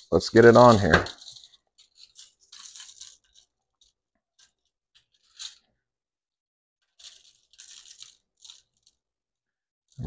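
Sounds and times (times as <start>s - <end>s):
gritty seasoning rustling: 0.0s - 5.9s, 6.8s - 10.0s.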